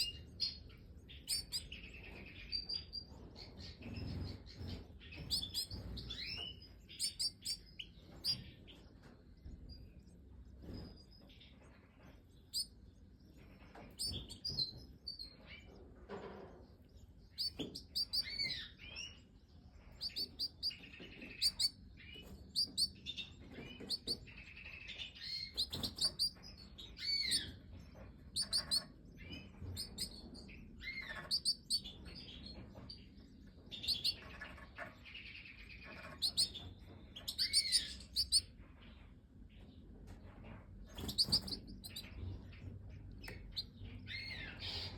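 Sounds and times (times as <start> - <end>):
goldfinches chirping: 0.0 - 8.7, 12.4 - 15.6, 17.2 - 32.5, 33.7 - 38.5, 40.9 - 44.9.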